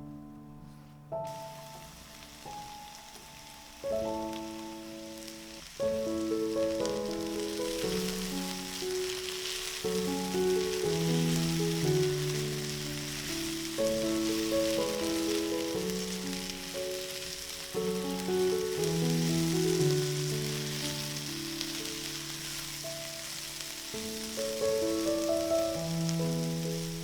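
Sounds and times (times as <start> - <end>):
slow background music: 0.0 - 27.0
food sizzling in a pan: 1.2 - 27.0.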